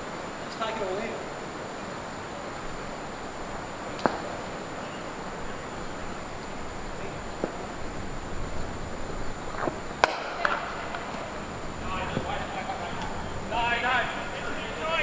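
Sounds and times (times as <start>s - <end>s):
thin high-pitched whine: 0.0s - 15.0s
wind hiss on microphone: 0.0s - 15.0s.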